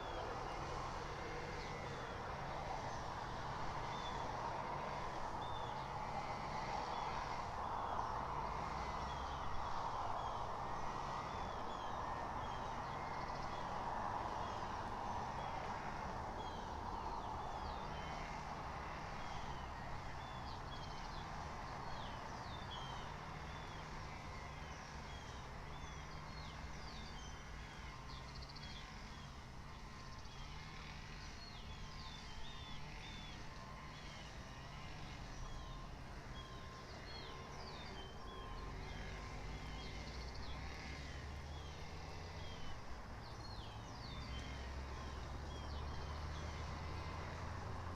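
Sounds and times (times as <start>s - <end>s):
distant traffic rumble: 0.0s - 47.9s.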